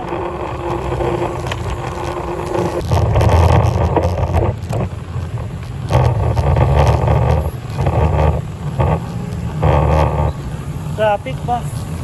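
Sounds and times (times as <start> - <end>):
road and traffic noise: 0.0 - 12.0
wind buffeting microphone: 0.0 - 12.0.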